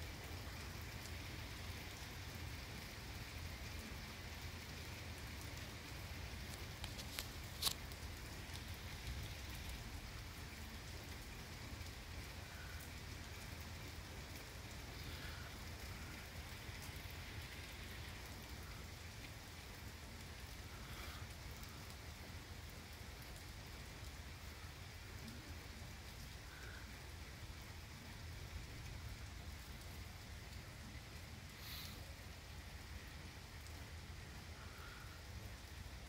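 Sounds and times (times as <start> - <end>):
heavy rain on trees: 0.0 - 36.0.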